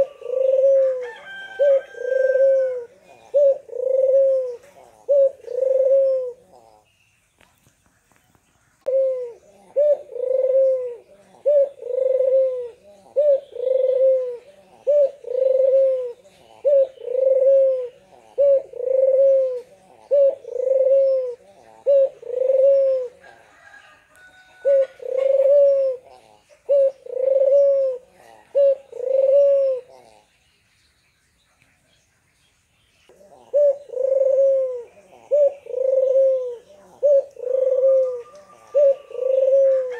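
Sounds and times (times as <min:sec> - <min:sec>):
dove cooing: 0:00.0 - 0:06.9, 0:08.8 - 0:30.4, 0:33.1 - 0:39.9.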